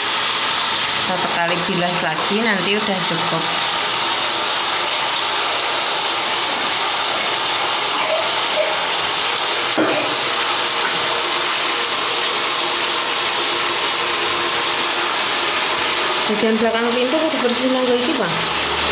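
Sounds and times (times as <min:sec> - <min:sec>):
water splashing on tiled floor: 0:00.0 - 0:18.9.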